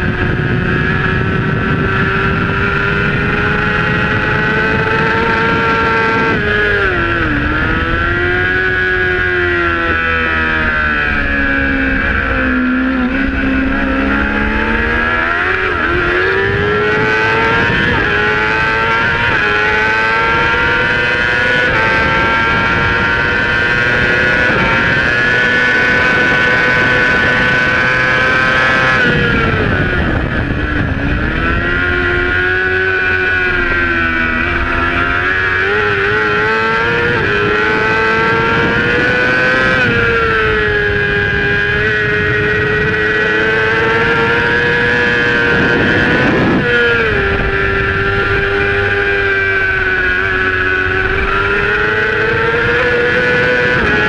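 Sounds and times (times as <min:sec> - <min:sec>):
motorcycle engine revving high: 0:00.0 - 0:54.0
wind rushing: 0:00.0 - 0:54.0.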